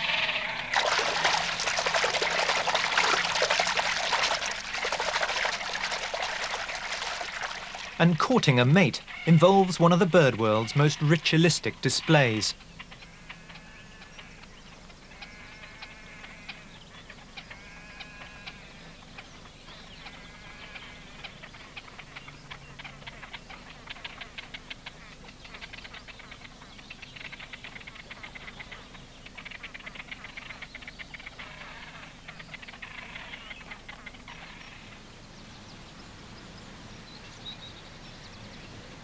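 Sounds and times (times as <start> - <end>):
grebes nasal calls: 0.0 - 19.0, 20.0 - 35.0.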